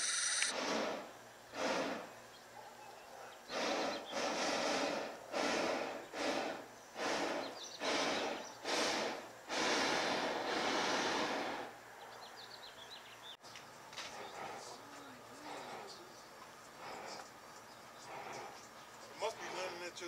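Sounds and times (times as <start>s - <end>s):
propane burner roaring hiss: 0.0s - 2.6s, 3.2s - 20.0s.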